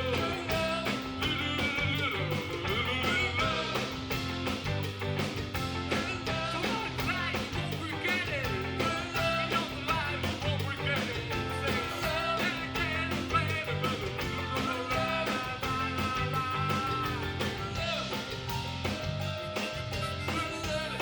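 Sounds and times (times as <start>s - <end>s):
drums steady beat: 0.0s - 21.0s
live rock band playing: 0.0s - 21.0s.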